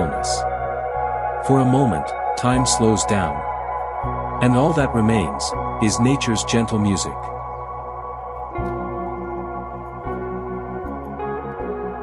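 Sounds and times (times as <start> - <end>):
synthesizer pads: 0.0 - 12.0.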